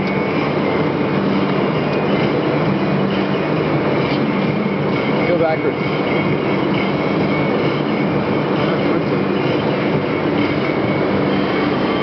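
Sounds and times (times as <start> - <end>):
faint constant tones: 0.0 - 12.0
machinery drone: 0.0 - 12.0.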